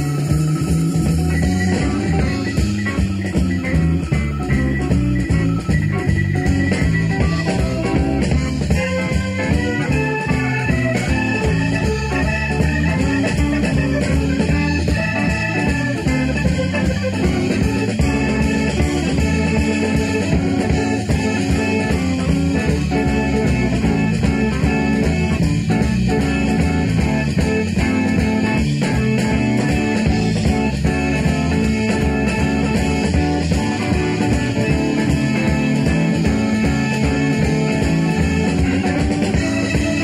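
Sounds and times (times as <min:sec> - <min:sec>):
electric guitar: 0:00.0 - 0:40.0
live rock band: 0:00.0 - 0:40.0.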